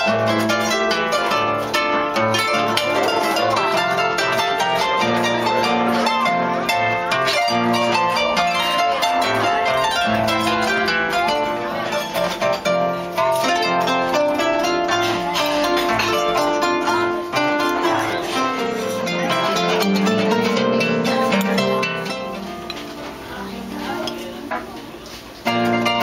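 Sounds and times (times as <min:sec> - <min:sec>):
harp playing lively tune: 0:00.0 - 0:26.0.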